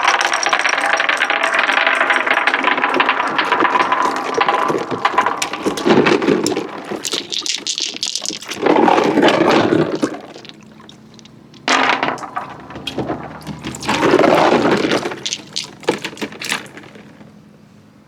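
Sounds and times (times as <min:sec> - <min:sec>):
marbles rolling on wooden track: 0:00.0 - 0:17.2.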